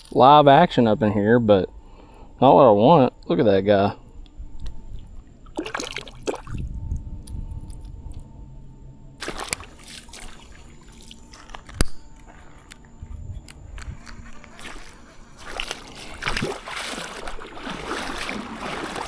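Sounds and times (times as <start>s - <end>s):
water dripping and sloshing: 3.2s - 19.0s.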